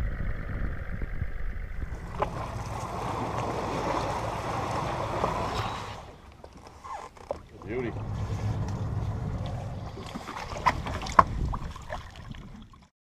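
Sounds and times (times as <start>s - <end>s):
low rumble of wind and boat: 0.0s - 12.9s
sea water rushing and splashing: 1.9s - 12.9s.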